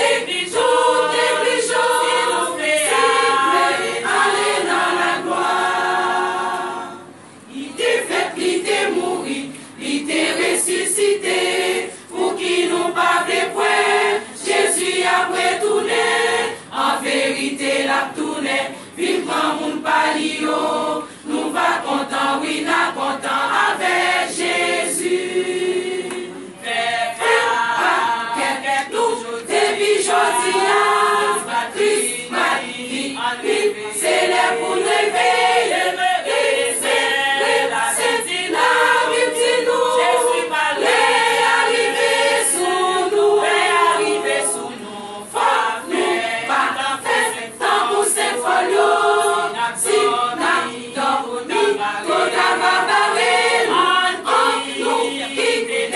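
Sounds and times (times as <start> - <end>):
women's choir singing: 0.0 - 55.9.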